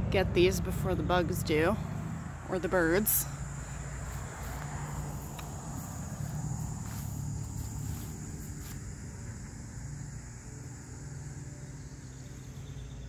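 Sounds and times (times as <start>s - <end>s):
low steady rumble: 0.0s - 13.0s
high insect trill: 1.5s - 13.0s.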